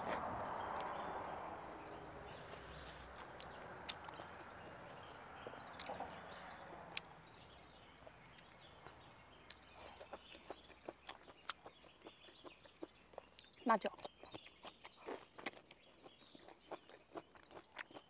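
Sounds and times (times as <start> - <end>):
chewing with wet mouth clicks: 0.0 - 1.1, 2.3 - 7.1, 8.0 - 18.0.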